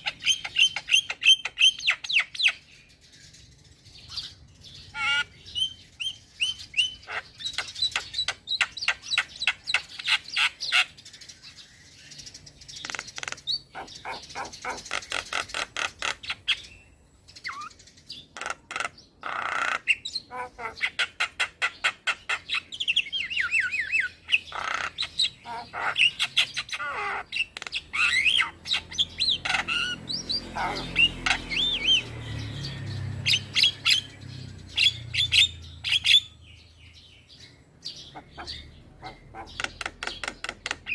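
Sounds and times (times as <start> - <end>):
myna bird singing: 0.0 - 40.9.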